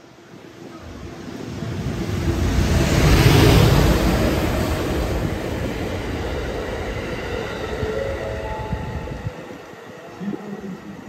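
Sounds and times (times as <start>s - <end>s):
train wheels rumbling on rail: 0.1s - 11.0s
locomotive rushing past: 0.4s - 11.0s.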